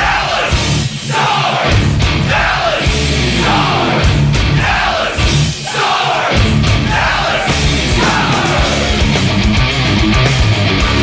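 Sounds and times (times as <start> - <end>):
shouted vocals: 0.0 - 9.1
distorted hard rock music: 0.0 - 11.0.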